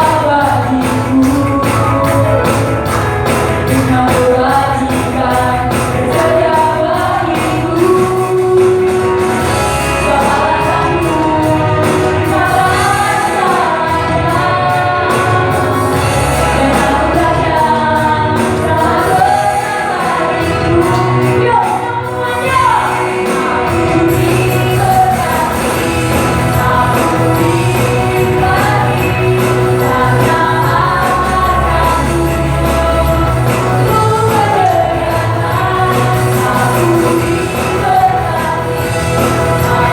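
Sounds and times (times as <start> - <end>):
band with beat and bass: 0.0 - 39.9
group singing worship song: 0.0 - 39.9.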